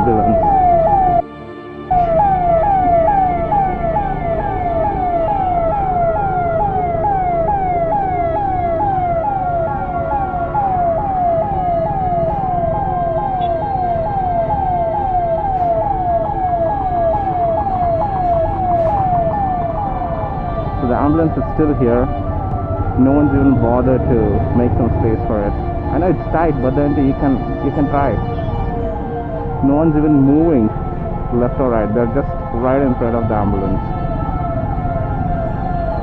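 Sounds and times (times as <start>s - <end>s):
ambulance siren: 0.0s - 36.0s
road traffic noise: 0.0s - 36.0s.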